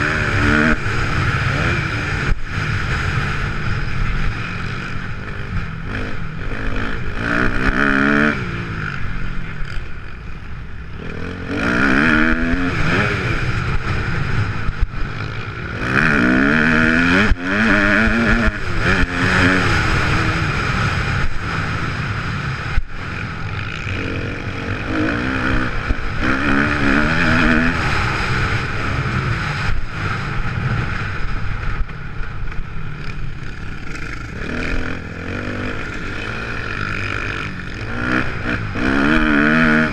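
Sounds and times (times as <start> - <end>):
motocross engine revving: 0.0 - 9.9, 10.8 - 31.9, 32.9 - 39.9.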